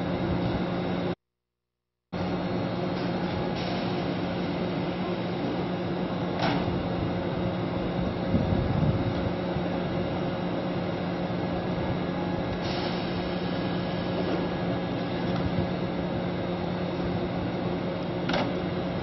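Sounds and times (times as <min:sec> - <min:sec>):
electric train equipment humming: 0:02.2 - 0:19.0.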